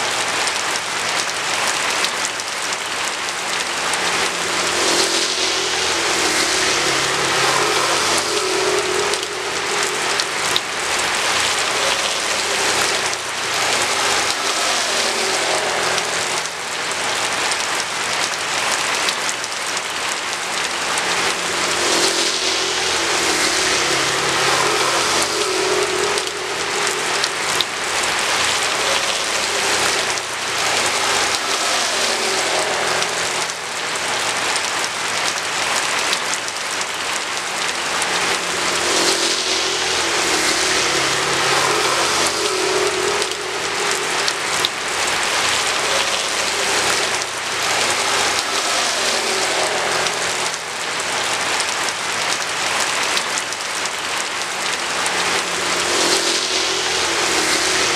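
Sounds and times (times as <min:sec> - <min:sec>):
rain splashing on ground: 0:00.0 - 0:57.9
road vehicles passing: 0:00.0 - 0:57.9.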